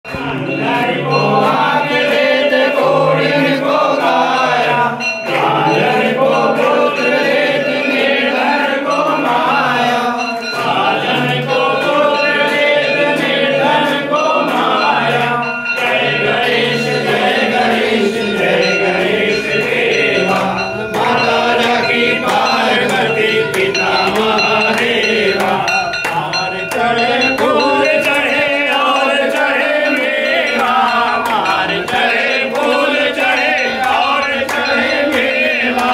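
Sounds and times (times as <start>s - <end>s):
rhythmic hand clapping: 0.0s - 35.9s
group singing a hymn: 0.1s - 35.9s.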